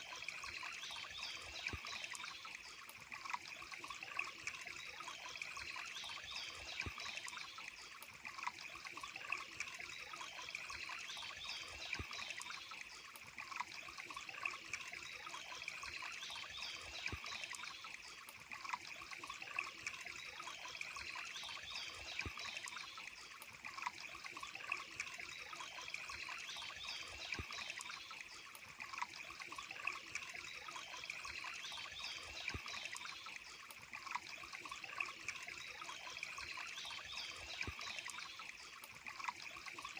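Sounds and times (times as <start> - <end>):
small sharp water splashes: 0.0 - 39.9
water trickling: 0.0 - 39.9.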